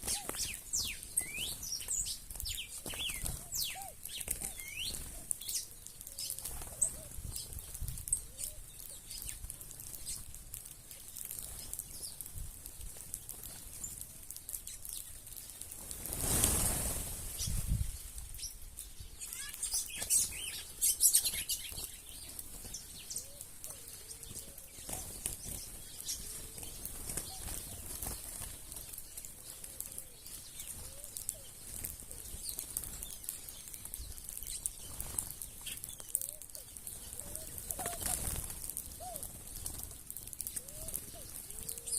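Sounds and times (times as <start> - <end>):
wings flapping: 0.0 - 17.9, 19.2 - 41.9.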